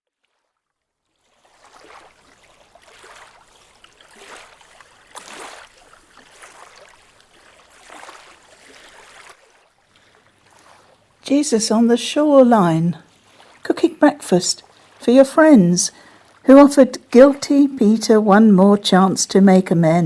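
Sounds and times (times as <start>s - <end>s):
faint water washing on beach: 0.1s - 20.0s.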